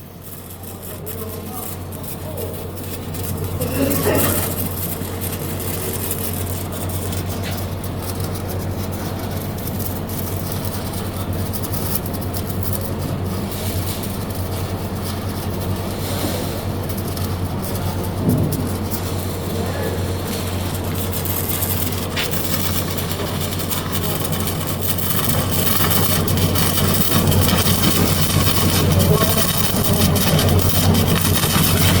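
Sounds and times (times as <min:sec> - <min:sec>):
arc welding crackling hiss: 0:00.0 - 0:32.0
constant low hum: 0:00.0 - 0:32.0.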